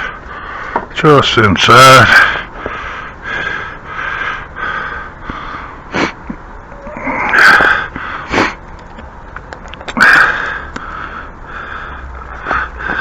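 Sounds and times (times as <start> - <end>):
man breathing hard: 0.0 - 0.9, 2.1 - 8.6, 10.0 - 13.0.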